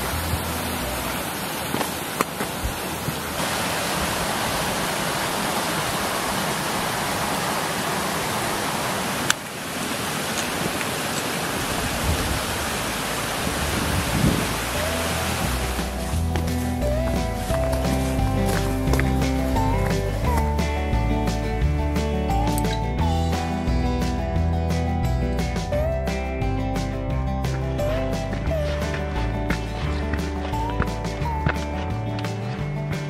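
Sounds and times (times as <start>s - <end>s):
mountain stream rushing: 0.0s - 24.2s, 27.4s - 33.0s.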